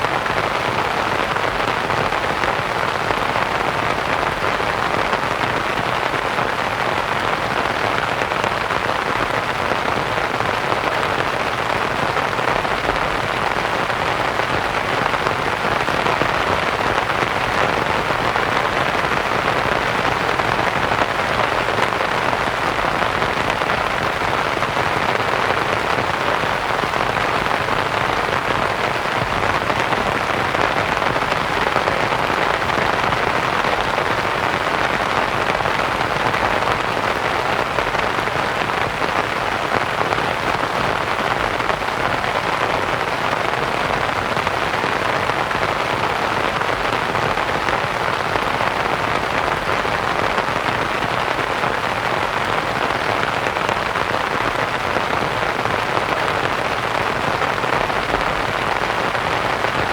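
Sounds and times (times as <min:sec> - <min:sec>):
rain on a canvas tent: 0:00.0 - 0:59.9.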